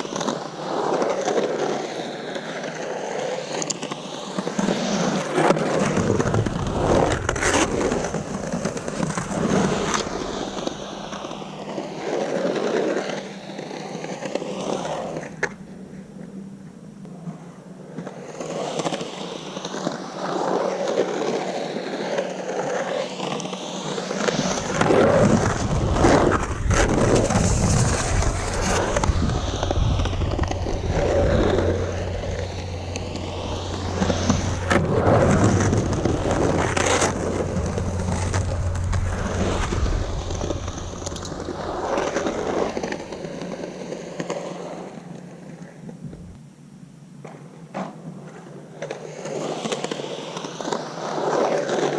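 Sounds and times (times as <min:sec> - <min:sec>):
skateboard clacks: 0:00.0 - 0:16.4, 0:17.1 - 0:46.3, 0:47.2 - 0:51.9
skateboard wheels rolling on concrete: 0:00.0 - 0:51.9.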